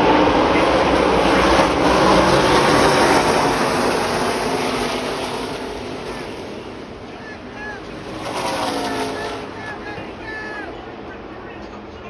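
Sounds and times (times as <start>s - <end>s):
race trucks passing at speed: 0.0s - 11.4s.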